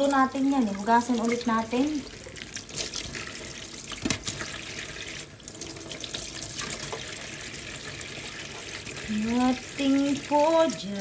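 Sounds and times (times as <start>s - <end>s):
tap water pouring: 0.0s - 11.0s.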